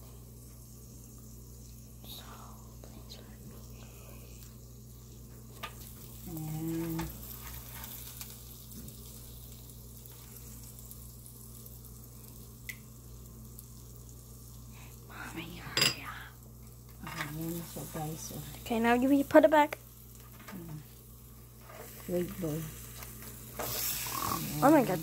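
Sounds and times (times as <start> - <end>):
food sizzling: 0.0 - 25.0
steady low hum: 0.0 - 25.0.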